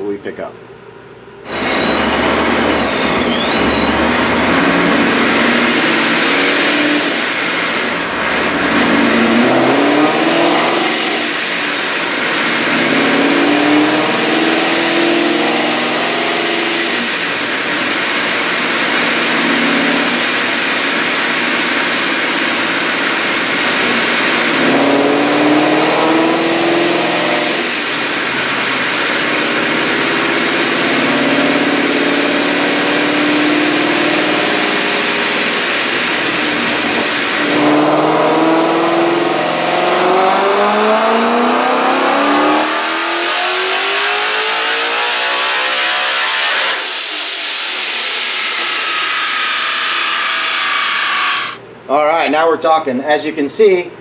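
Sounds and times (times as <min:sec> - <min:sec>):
supercharger whine: 0:00.8 - 0:51.7
car engine revving at full throttle: 0:01.5 - 0:50.6.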